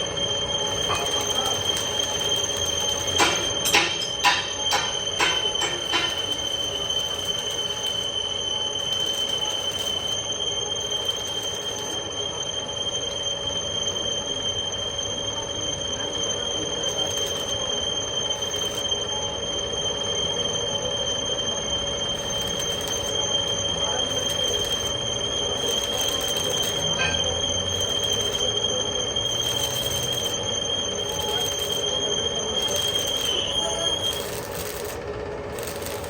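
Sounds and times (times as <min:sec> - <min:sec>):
cutting tool squealing: 0:00.0 - 0:36.0
machine running: 0:00.0 - 0:36.0.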